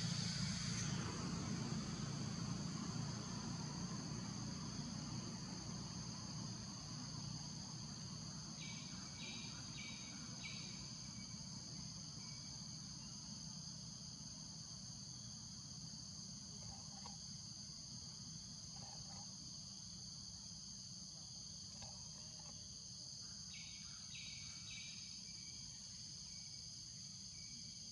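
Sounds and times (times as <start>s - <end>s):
insects droning: 0.0s - 27.9s.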